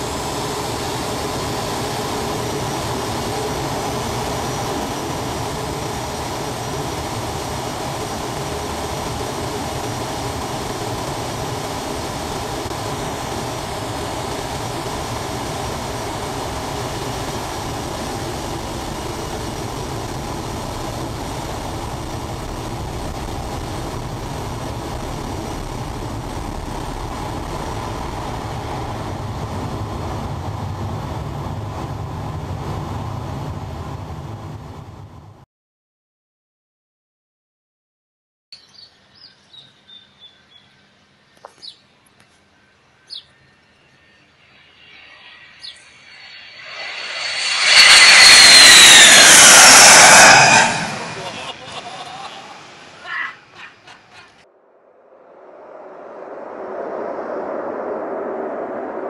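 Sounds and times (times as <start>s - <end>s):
rushing air and jet engine roar: 0.0s - 35.4s, 44.5s - 53.1s, 54.4s - 59.0s.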